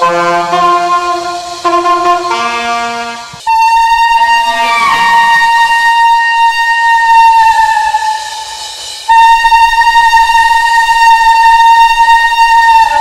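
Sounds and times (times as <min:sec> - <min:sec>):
horn blowing long high note: 0:00.0 - 0:13.0.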